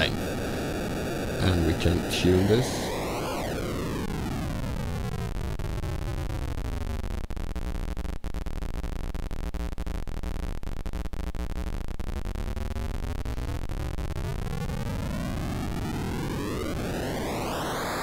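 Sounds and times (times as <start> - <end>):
buzzy digital noise hiss: 0.0 - 14.7.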